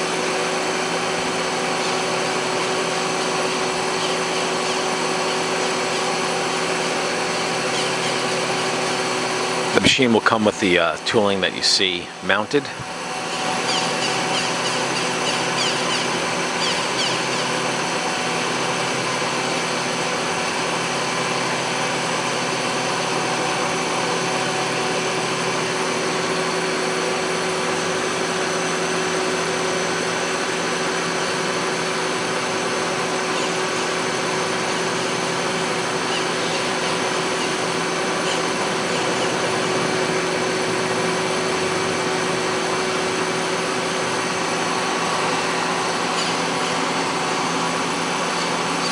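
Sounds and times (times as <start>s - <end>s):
lathe whirring and humming: 0.0s - 48.9s.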